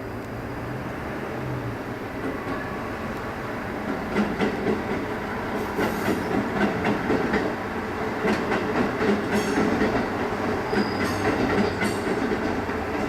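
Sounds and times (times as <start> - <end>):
train wheels clattering on rails: 2.1 - 13.0.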